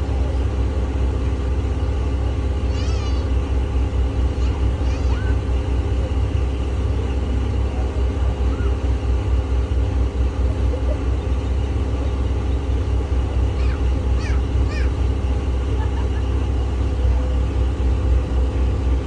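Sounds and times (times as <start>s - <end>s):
boat motor running: 0.0s - 19.0s
wind: 0.0s - 19.0s.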